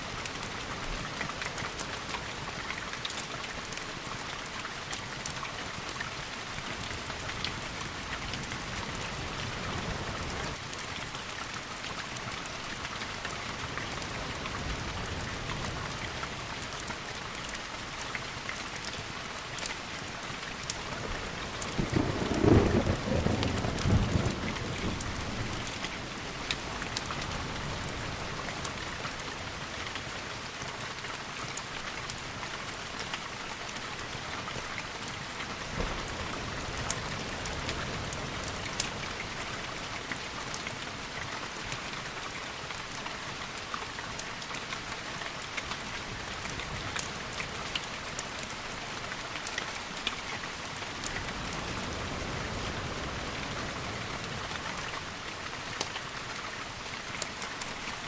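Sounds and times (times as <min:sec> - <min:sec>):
sharp ticks of raindrops: 0:00.0 - 0:58.0
steady rain: 0:00.0 - 0:58.0.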